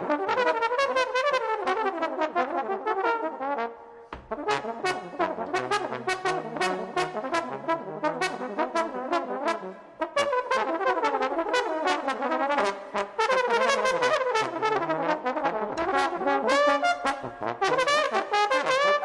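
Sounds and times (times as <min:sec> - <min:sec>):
jazz trombone playing: 0:00.0 - 0:19.0.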